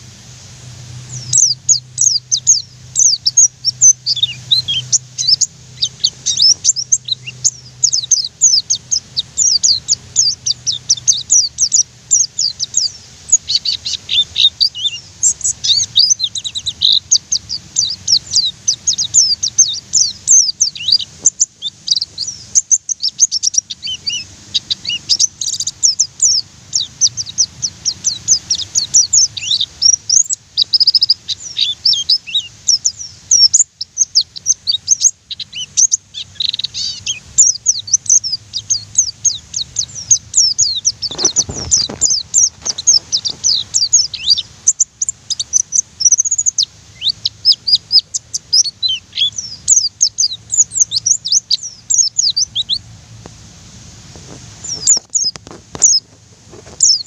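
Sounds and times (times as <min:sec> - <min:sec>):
bird chirping and trilling: 0:00.9 - 0:52.9, 0:54.6 - 0:57.0.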